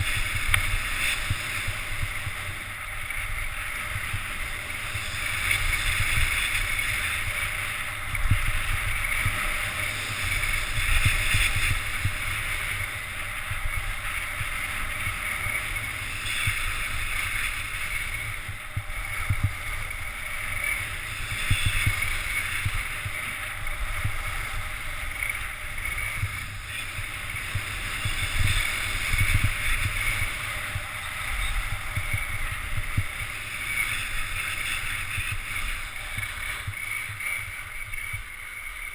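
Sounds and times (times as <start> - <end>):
skis hissing on snow: 0.0 - 37.9
wind buffeting microphone: 0.0 - 38.9.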